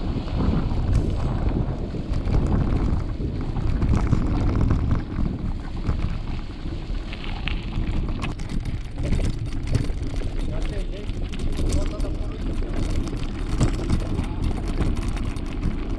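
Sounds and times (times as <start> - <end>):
bike rolling over gravel: 0.0 - 15.9
wind buffeting microphone: 0.0 - 15.9
small rattles and clicks: 0.2 - 15.9.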